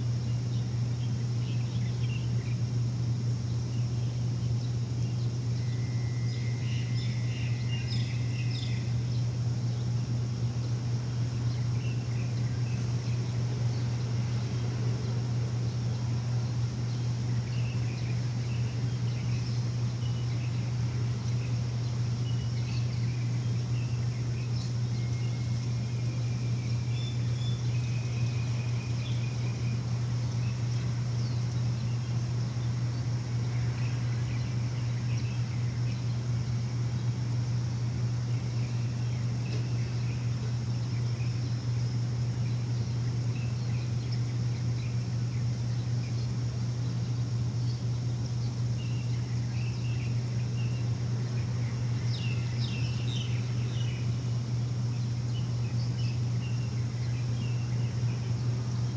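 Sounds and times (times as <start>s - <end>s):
birds chirping: 0.0s - 58.9s
low machine hum: 0.0s - 58.9s.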